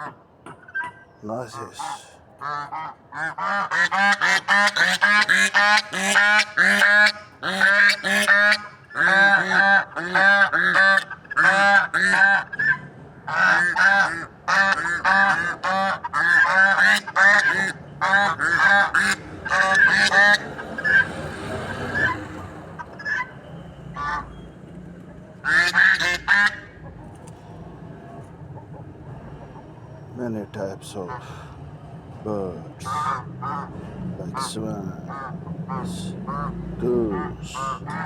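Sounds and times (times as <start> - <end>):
swans honking: 0.0 - 38.0.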